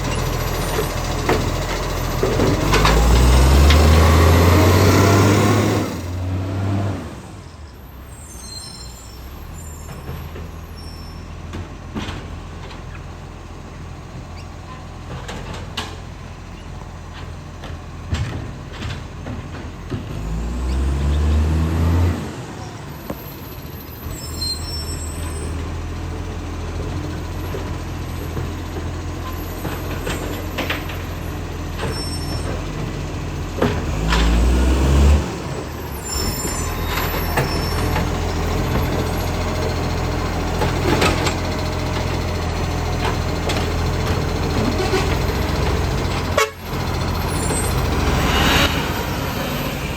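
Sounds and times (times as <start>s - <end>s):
truck diesel engine idling and revving: 0.0s - 49.9s.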